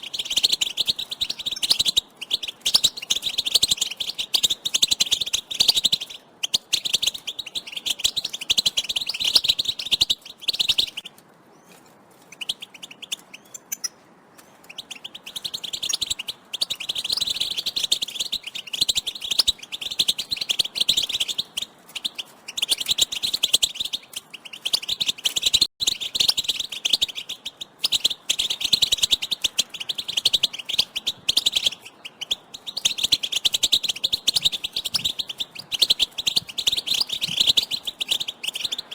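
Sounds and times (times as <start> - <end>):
finches twittering: 0.0 - 11.1, 14.6 - 38.9.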